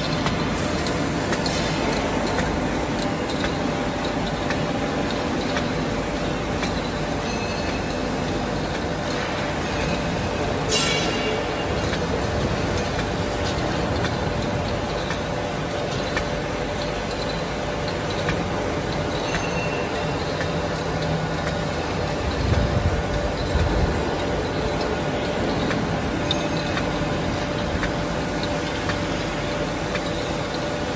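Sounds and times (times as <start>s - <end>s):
machine humming: 0.0s - 30.9s
tubes clicking on conveyor: 0.0s - 30.9s.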